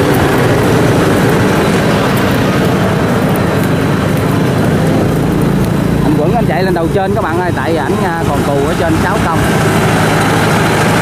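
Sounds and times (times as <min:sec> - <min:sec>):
harvester engine running: 0:00.0 - 0:11.0.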